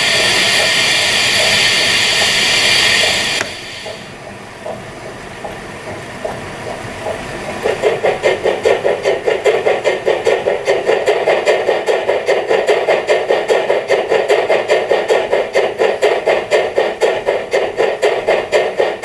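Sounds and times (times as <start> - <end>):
steam locomotive exhaust chuffs: 0.0 - 19.0.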